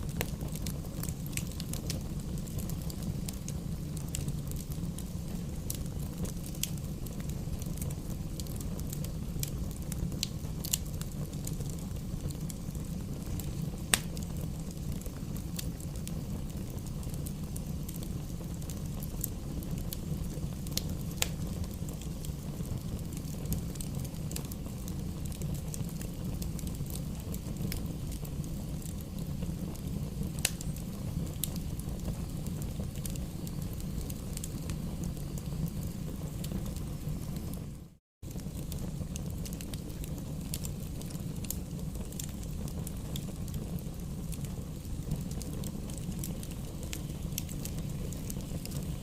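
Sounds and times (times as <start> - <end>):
campfire rumble: 0.0 - 49.0
wood crackling and popping: 0.0 - 49.0.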